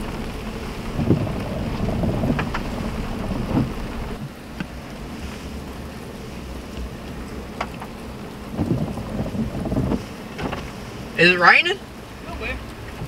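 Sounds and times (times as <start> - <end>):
rain and road rumble in vehicle: 0.0 - 13.0.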